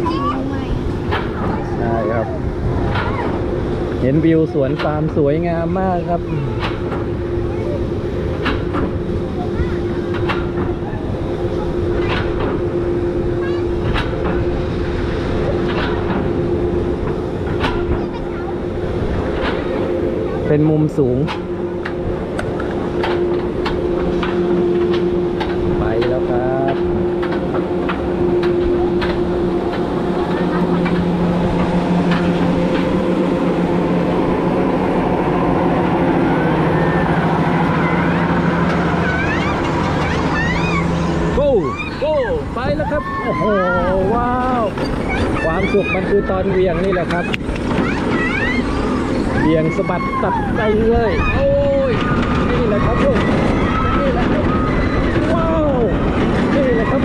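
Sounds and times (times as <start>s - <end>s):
lift drive humming: 0.0s - 57.0s
low rumble: 0.0s - 57.0s
roller coaster clicks: 0.5s - 5.7s, 6.4s - 57.0s.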